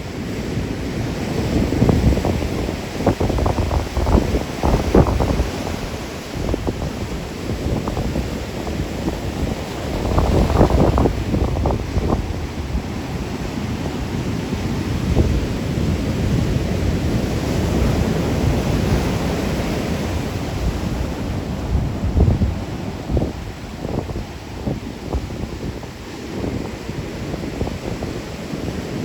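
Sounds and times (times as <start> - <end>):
surf breaking on beach: 0.0 - 29.0
wind rumbling on microphone: 0.0 - 29.0.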